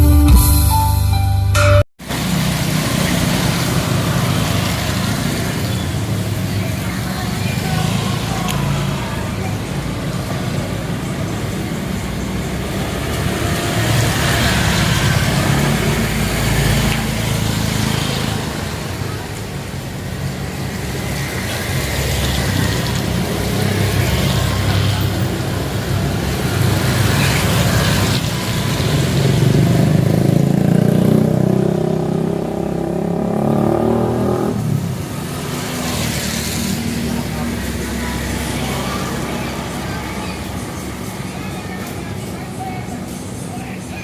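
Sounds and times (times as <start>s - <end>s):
vehicles passing on street: 2.0s - 44.0s
engine revving: 2.1s - 19.1s, 20.3s - 41.5s.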